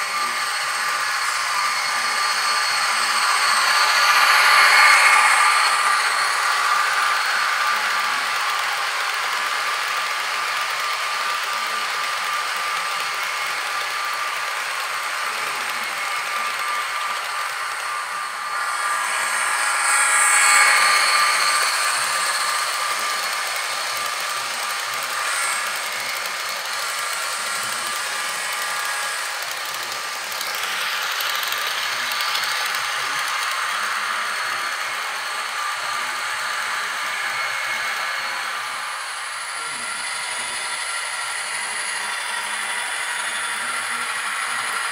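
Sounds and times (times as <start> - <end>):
model train whirring and clattering: 0.0 - 44.9.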